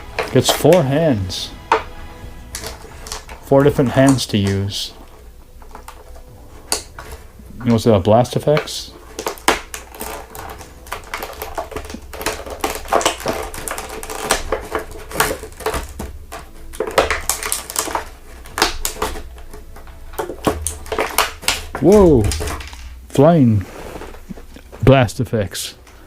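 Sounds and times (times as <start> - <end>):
plastic packaging clicks and crinkles: 0.0 - 23.1.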